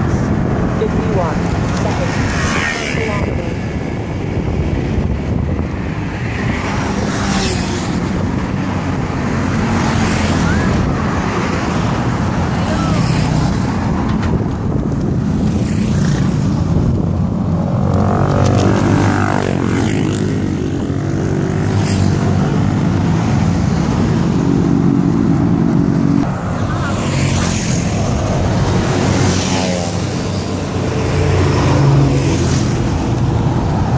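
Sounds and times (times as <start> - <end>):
heavy road traffic: 0.0 - 33.9.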